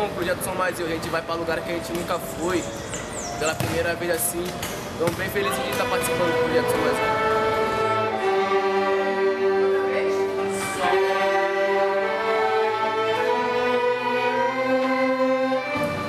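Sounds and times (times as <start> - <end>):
orchestra playing sustained chords: 0.0 - 16.0.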